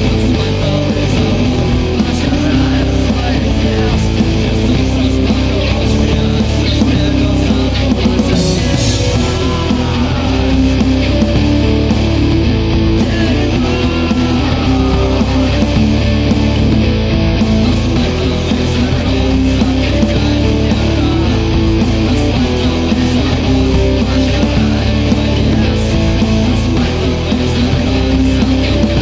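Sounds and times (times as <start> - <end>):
guitar-driven rock music: 0.0 - 29.0.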